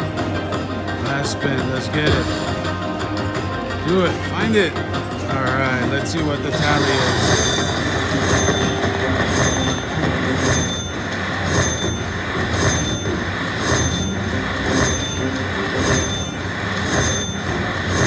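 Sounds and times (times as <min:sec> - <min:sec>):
slot machine ringing chime: 0:00.0 - 0:18.0
jangle of machine sounds: 0:01.0 - 0:18.0.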